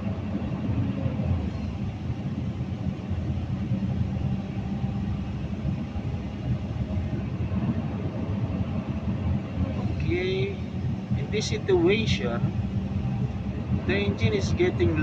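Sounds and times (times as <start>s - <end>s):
excavator diesel engine at full throttle: 0.0s - 15.0s.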